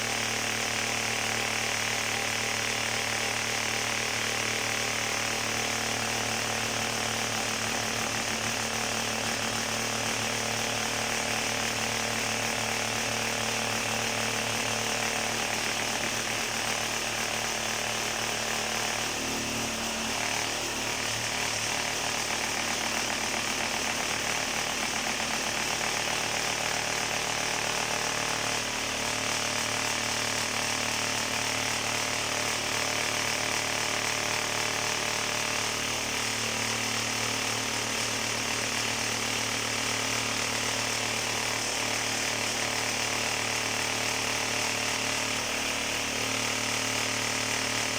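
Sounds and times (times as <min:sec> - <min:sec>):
fast even machine rattle: 0:00.2 - 0:47.9.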